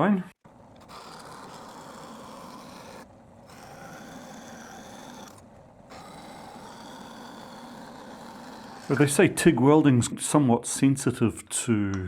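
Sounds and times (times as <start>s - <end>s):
machine tool cutting steel tube: 0.6s - 10.4s.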